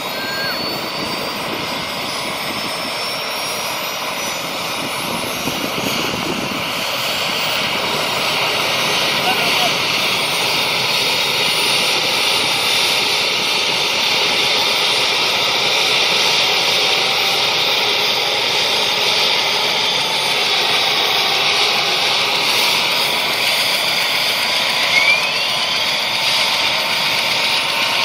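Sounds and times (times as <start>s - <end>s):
helicopter turbine whine: 0.0s - 28.0s.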